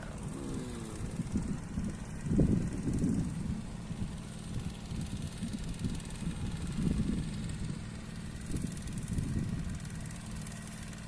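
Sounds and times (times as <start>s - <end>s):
machine engine drone: 0.0s - 11.0s.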